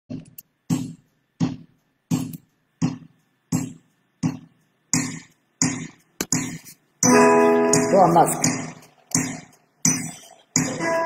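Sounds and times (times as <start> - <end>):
percussion beat of low thuds: 0.1 - 11.0.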